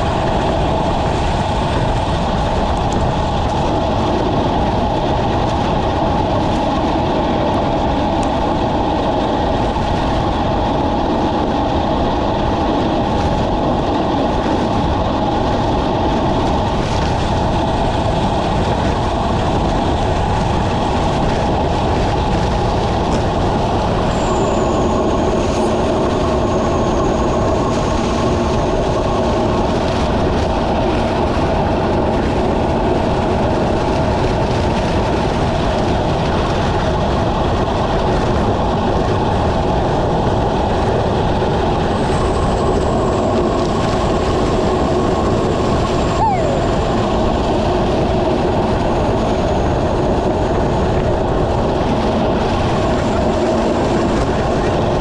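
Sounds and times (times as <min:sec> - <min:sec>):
rushing road noise in rain: 0:00.0 - 0:55.0.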